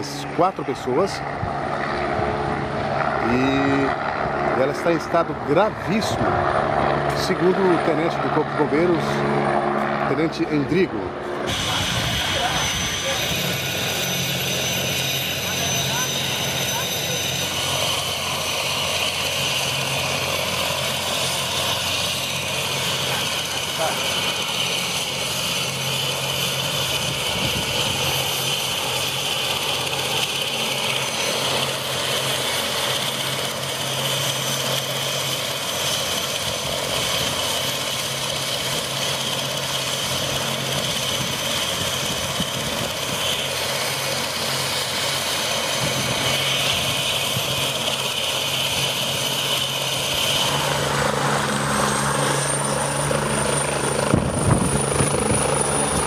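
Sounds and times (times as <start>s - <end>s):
helicopter turbine whine: 0.0s - 56.0s
higher turbine whine: 0.0s - 56.0s.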